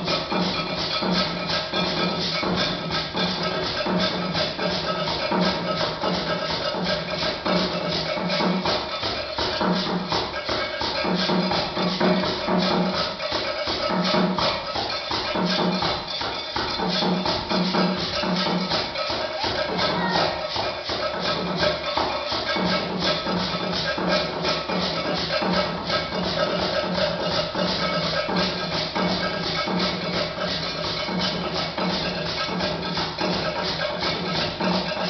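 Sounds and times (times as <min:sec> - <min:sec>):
shaker beat: 0:00.0 - 0:35.0.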